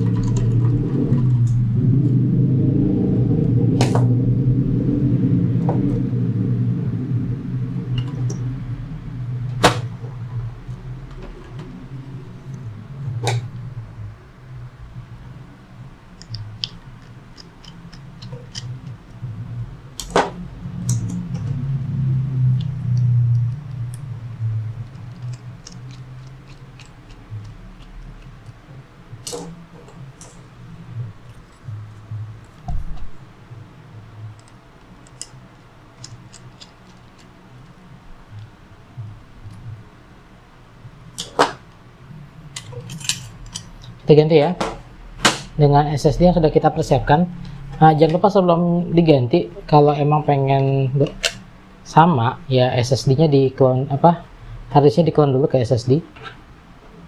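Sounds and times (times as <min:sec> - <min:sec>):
low handling rumble: 0:00.0 - 0:57.0
steady low hum: 0:00.0 - 0:57.0.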